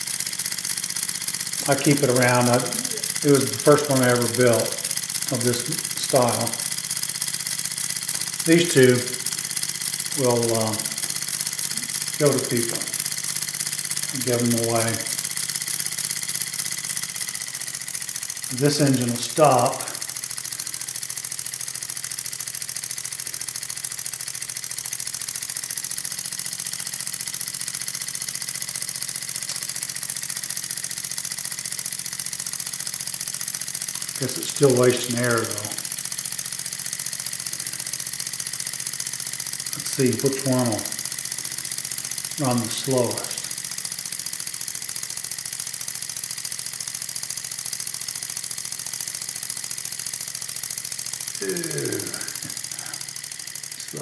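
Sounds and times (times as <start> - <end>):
model engine exhaust beat: 0.0 - 54.0.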